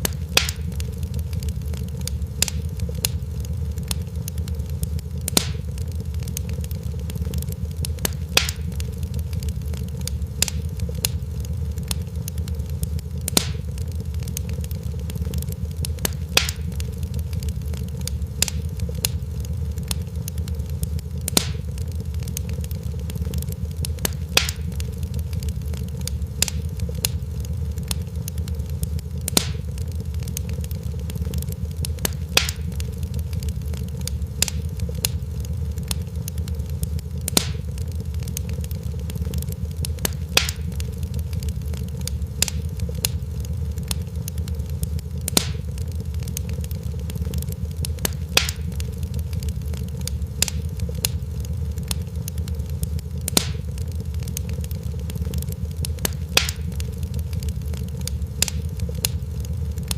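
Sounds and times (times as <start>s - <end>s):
fire crackling: 0.0s - 59.9s
sharp pops: 0.0s - 59.9s.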